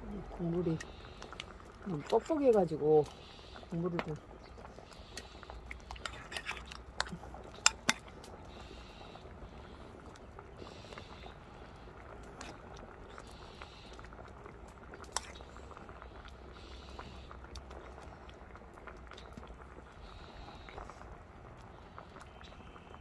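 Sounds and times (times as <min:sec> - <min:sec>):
broth bubbling with crackles: 0:00.0 - 0:23.0.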